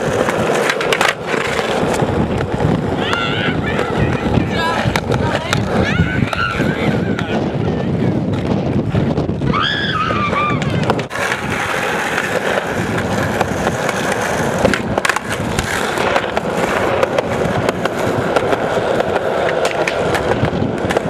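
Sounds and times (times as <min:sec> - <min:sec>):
skateboard clicks and knocks: 0:00.0 - 0:21.0
skateboard wheels rolling: 0:00.0 - 0:21.0.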